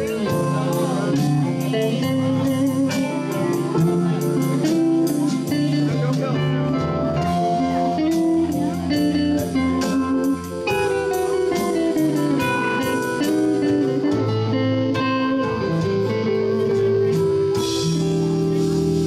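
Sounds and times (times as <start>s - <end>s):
bass: 0.0s - 19.0s
drum kit with cymbal tick: 0.0s - 19.0s
electric guitar notes: 0.0s - 19.0s
keyboards: 0.0s - 19.0s.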